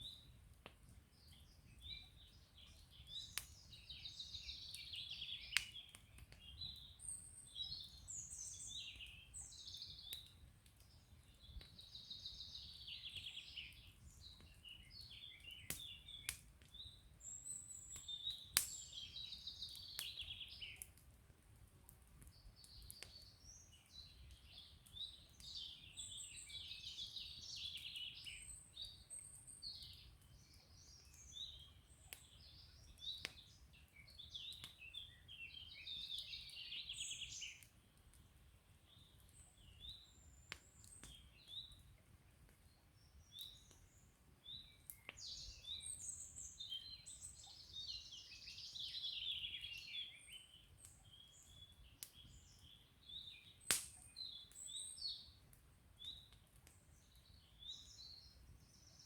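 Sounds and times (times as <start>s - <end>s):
campfire crackling and popping: 0.0s - 46.4s, 50.6s - 57.9s
songbirds chirping and trilling: 1.0s - 21.0s, 22.2s - 59.0s.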